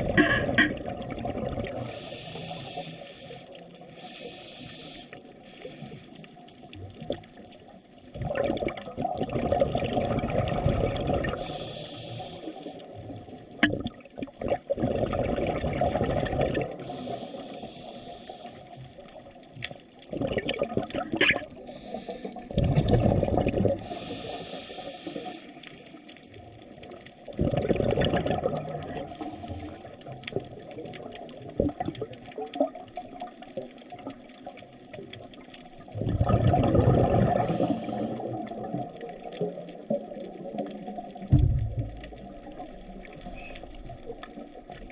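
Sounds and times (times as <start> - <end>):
water surging and bubbling: 0.0 - 44.9.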